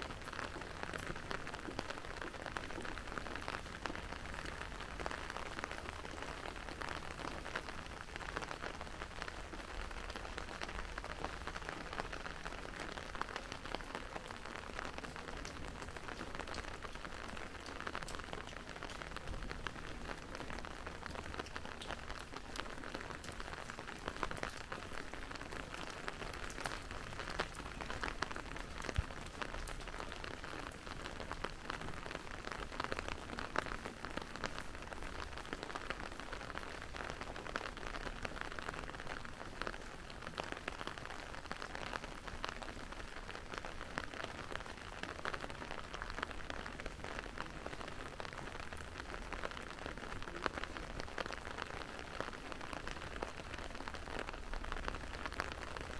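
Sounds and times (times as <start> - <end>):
rain spattering on hard surfaces: 0.0 - 55.9
raindrops ticking close by: 0.0 - 55.9.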